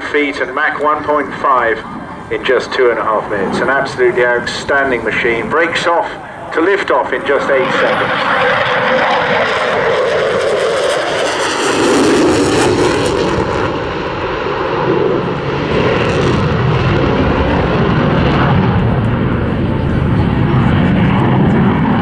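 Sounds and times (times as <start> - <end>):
jet flying past: 0.0 - 22.0.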